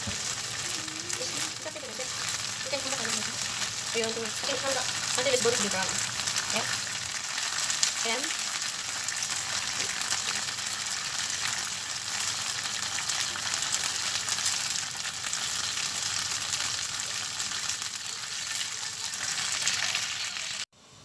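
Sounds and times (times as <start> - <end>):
meat sizzling in hot oil: 0.0 - 20.8.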